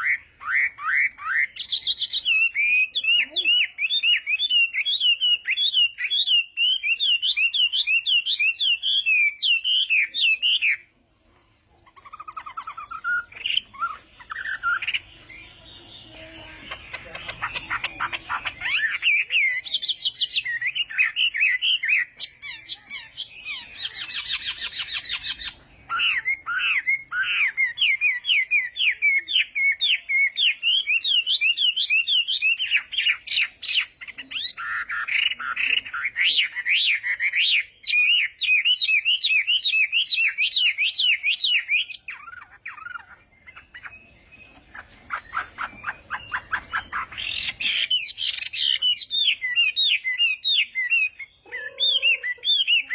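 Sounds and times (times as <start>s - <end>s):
bird singing whistled notes: 0.0s - 10.9s, 12.0s - 52.9s.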